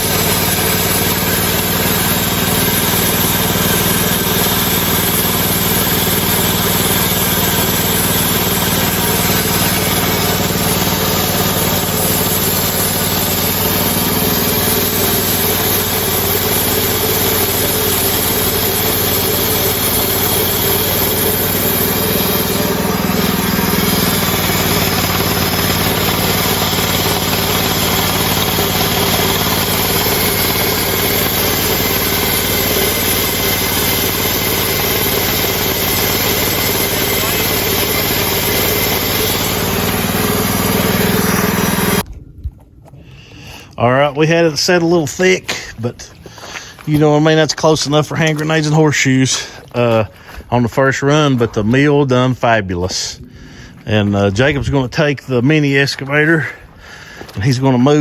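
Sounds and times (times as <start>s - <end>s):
sawmill engine cutting log: 0.0s - 42.1s, 43.6s - 58.0s.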